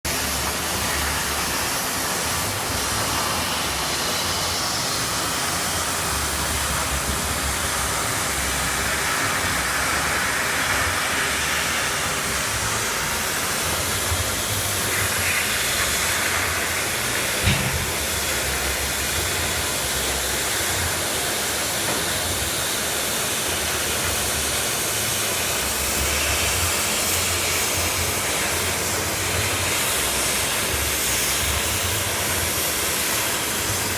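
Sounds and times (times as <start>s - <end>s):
gas cutting torch hissing: 0.1s - 33.9s.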